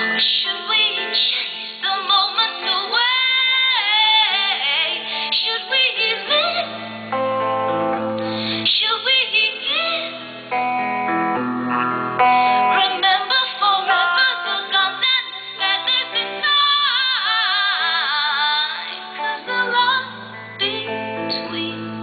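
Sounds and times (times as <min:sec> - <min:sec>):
woman singing: 0:00.0 - 0:07.1, 0:08.4 - 0:10.6, 0:12.5 - 0:22.0
guitar accompaniment: 0:00.0 - 0:22.0.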